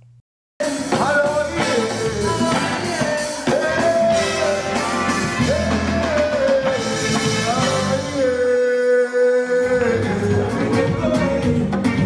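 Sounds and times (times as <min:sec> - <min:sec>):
drums: 0:00.6 - 0:08.8, 0:09.6 - 0:12.0
live band music: 0:00.6 - 0:12.0.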